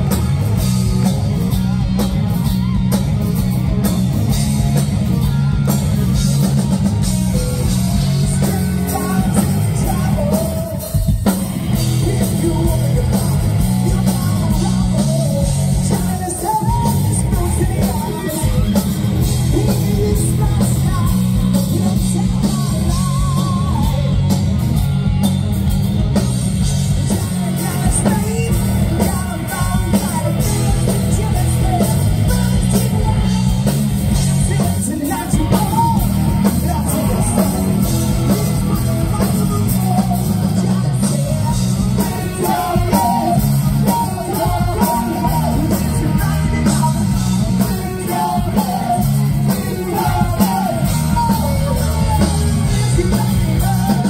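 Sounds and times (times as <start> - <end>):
live hard rock band playing: 0.0 - 54.0
man singing: 7.2 - 24.4, 27.1 - 54.0.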